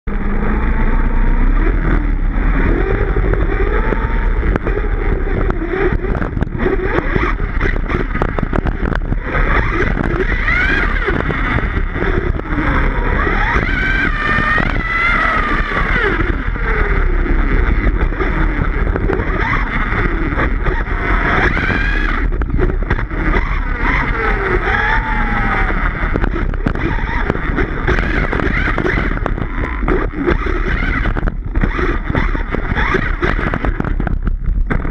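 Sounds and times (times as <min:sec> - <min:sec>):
steady low rumble: 0:00.0 - 0:34.9
electric motor whining: 0:00.1 - 0:34.9.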